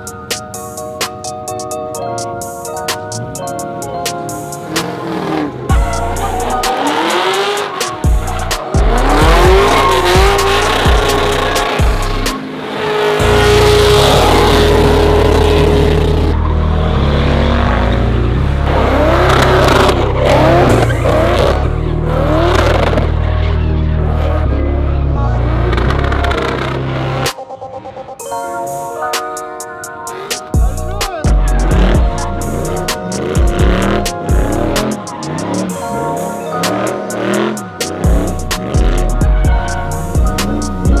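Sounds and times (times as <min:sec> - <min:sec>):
car engines revving: 0:00.0 - 0:28.1, 0:30.0 - 0:41.0
bass-heavy background music: 0:00.0 - 0:41.0
tires squealing: 0:04.4 - 0:27.4, 0:30.1 - 0:41.0.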